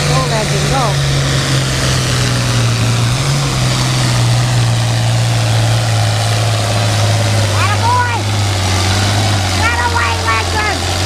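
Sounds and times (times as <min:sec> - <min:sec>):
tractor engine at full throttle: 0:00.0 - 0:11.0.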